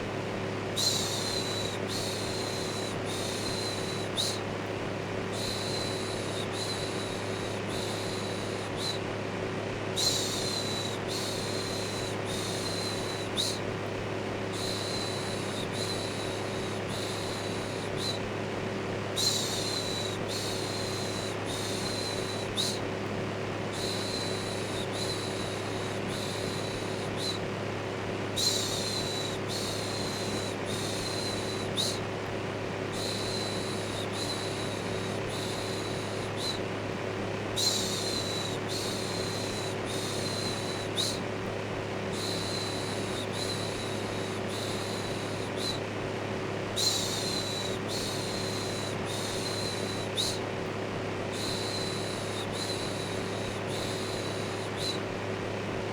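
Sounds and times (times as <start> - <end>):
electric fan humming: 0.0 - 55.9.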